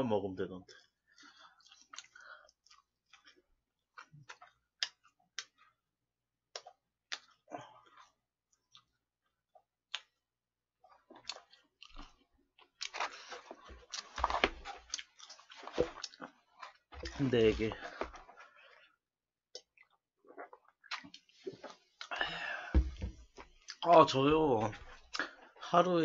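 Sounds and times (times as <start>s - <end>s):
person chewing crunchy food: 1.2s - 5.8s, 6.5s - 10.2s, 10.8s - 24.0s.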